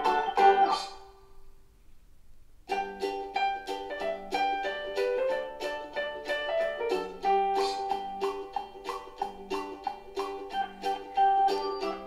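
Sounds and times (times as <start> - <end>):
background music of quick notes: 0.0 - 1.2, 2.7 - 12.0.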